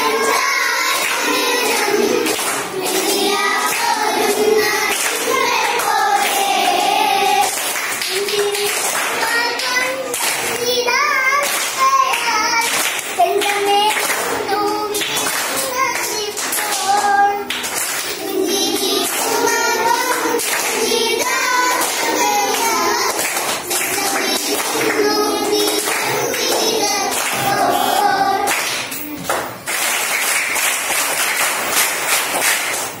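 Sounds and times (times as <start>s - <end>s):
hand clapping: 0.0s - 27.8s, 28.4s - 33.0s
children singing together: 0.0s - 29.0s.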